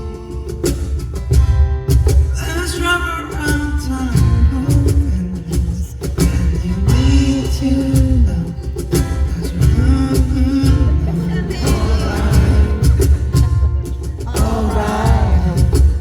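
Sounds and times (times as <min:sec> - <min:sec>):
live rock band with man singing: 0:02.1 - 0:16.0.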